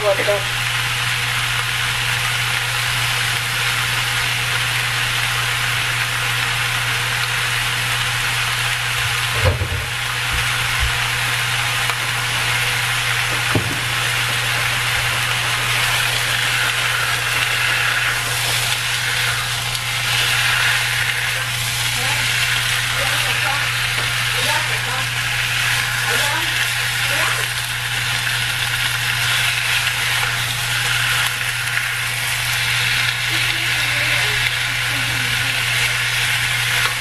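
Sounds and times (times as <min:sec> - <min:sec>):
chicken sizzling in a wok: 0:00.0 - 0:37.0.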